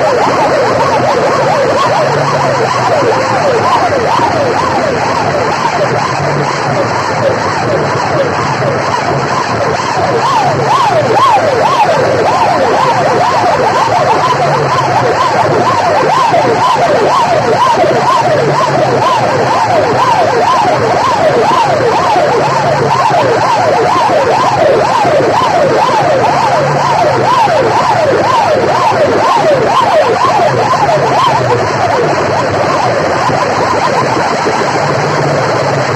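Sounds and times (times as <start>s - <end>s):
sirens wailing: 0.0s - 35.9s.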